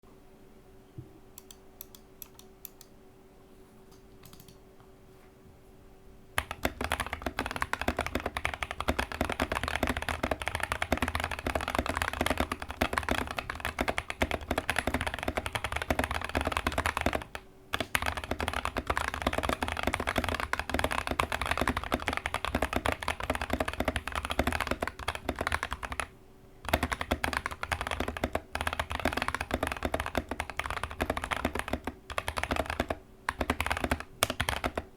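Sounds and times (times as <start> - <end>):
fast mechanical keyboard typing: 6.4 - 34.9.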